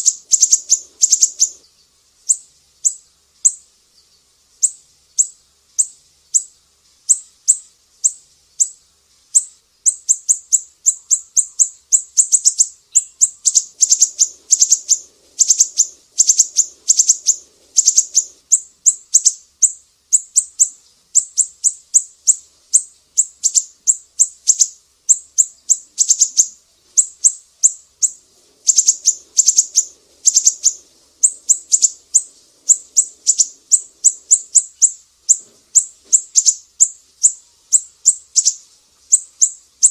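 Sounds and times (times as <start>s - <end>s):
songbird singing high notes: 0.0s - 3.6s, 9.4s - 39.9s.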